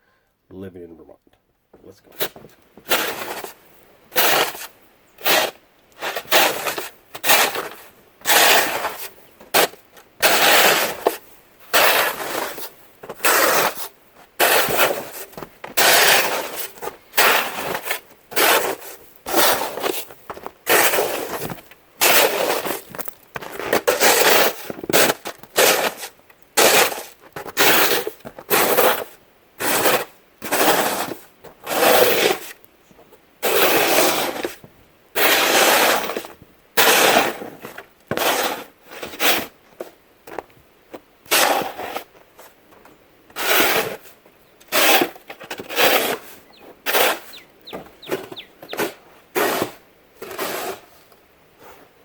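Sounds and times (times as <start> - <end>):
footsteps crunching through snow: 1.8 - 52.0.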